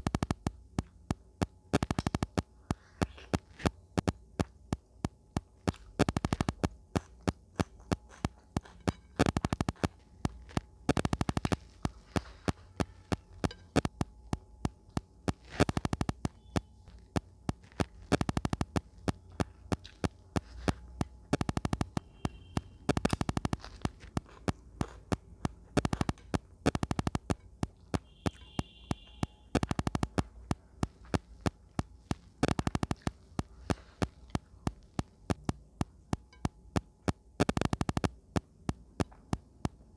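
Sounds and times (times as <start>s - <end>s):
wet clicks and crunches: 0.0s - 39.9s
chewing and mouth sounds: 1.8s - 39.8s.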